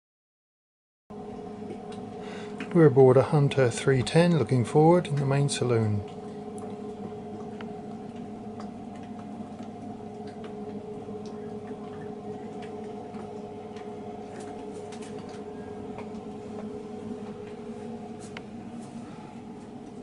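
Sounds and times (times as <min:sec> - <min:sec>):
steady mechanical hum: 0:01.1 - 0:20.0.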